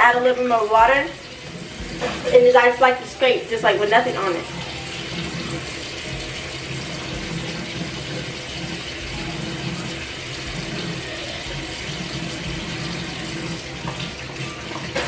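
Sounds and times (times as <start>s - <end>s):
faucet running into sink: 0.0s - 15.0s.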